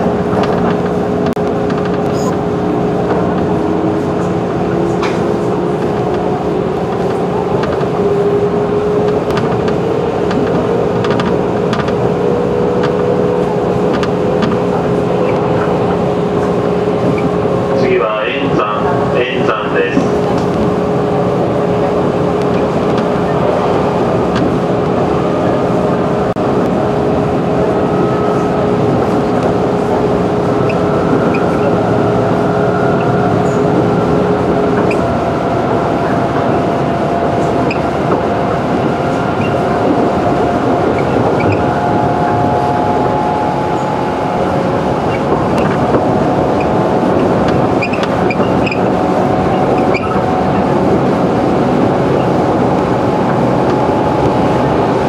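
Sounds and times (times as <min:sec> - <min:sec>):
train wheels on rail noise: 0:00.0 - 0:55.0.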